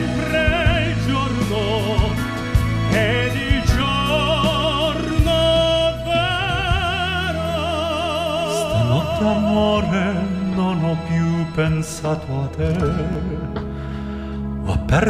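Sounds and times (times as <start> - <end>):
men singing operatic harmony: 0.0 - 13.5
instrumental accompaniment: 0.0 - 15.0.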